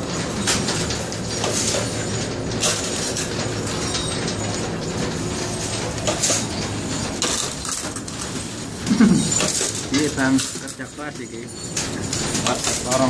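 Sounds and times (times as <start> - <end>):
industrial machinery rumbling: 0.0 - 13.0
metallic clicks and clanks: 0.0 - 13.0.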